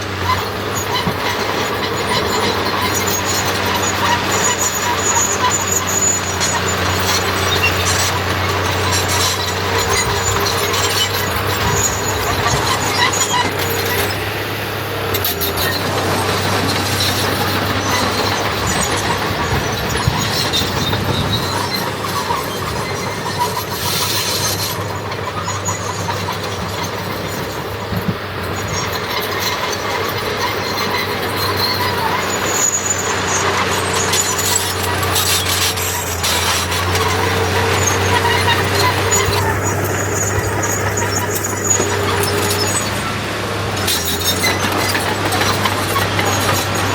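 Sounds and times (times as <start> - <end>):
bulldozer diesel engine droning: 0.0 - 46.9
tracks clattering and grinding: 0.0 - 46.9.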